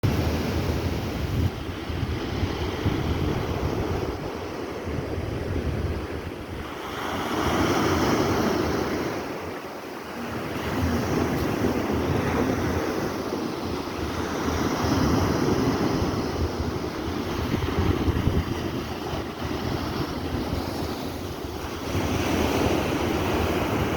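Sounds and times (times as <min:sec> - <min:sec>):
surf washing onto shore: 0:00.0 - 0:23.9
wind rumbling on microphone: 0:00.0 - 0:23.9.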